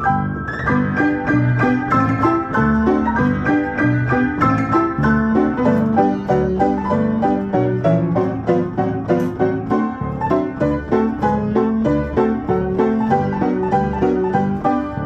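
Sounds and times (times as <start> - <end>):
player piano playing: 0.0 - 15.0.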